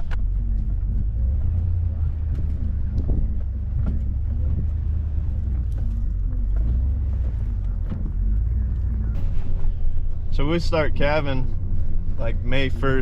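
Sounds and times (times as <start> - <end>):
vehicle engine deep rumble: 0.0 - 13.0.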